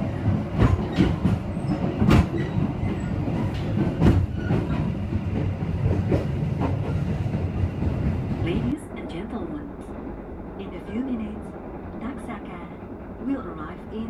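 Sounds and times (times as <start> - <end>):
track clacks and knocks: 0.0 - 14.0
train wheels rumbling on rails: 0.0 - 14.0.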